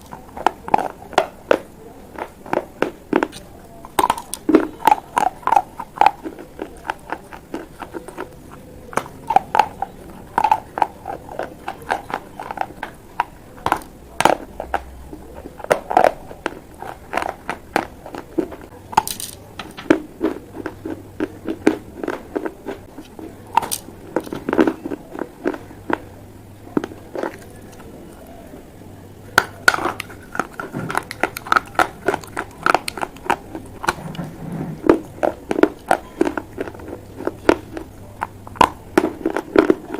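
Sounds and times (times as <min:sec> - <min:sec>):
chewing brittle clay pieces: 0:00.0 - 0:28.4, 0:29.3 - 0:39.9.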